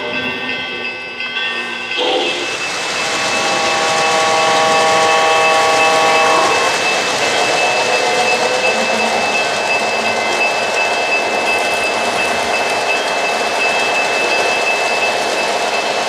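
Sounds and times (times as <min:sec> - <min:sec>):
held multi-note tone: 0:01.6 - 0:16.0
model train wheels rumbling: 0:01.9 - 0:16.0.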